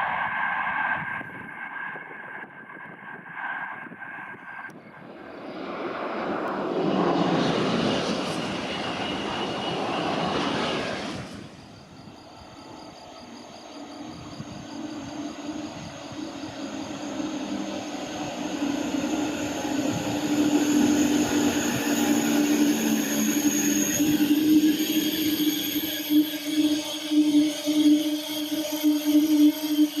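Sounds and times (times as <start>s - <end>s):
train hum with high whine: 0.0s - 30.0s
train rushing past: 5.0s - 30.0s.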